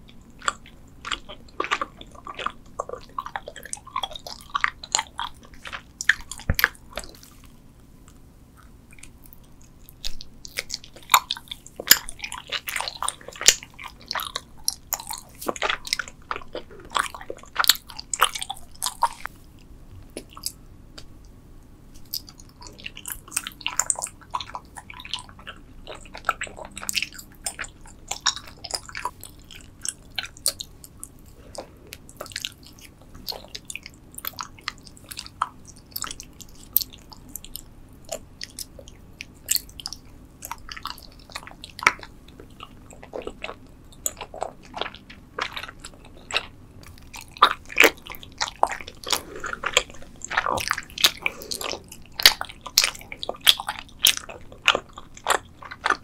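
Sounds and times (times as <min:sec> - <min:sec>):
chewing gummy candy: 0:00.0 - 0:56.0.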